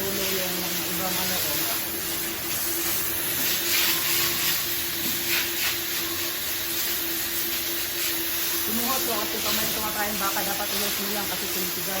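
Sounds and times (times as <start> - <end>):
machinery hiss: 0.0 - 12.0.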